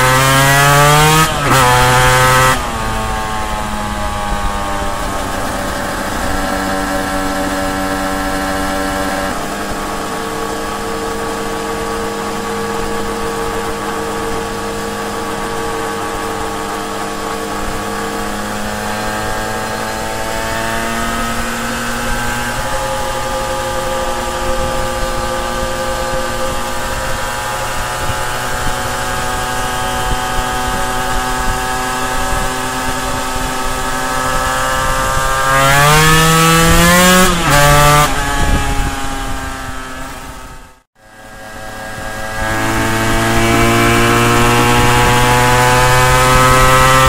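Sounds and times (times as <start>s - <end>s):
two-stroke motorcycle engine running: 0.0s - 47.0s.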